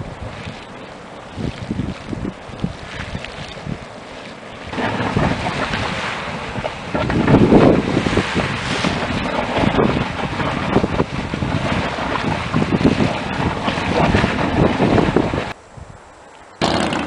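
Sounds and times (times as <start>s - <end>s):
geyser water gushing and splashing: 0.0s - 15.6s
wind buffeting microphone: 0.0s - 16.0s.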